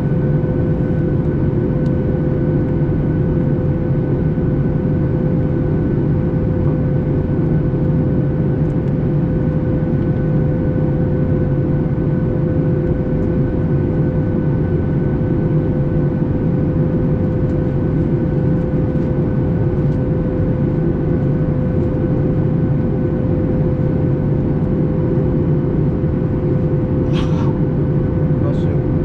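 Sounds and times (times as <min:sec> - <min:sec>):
airplane cabin roar: 0:00.0 - 0:29.0.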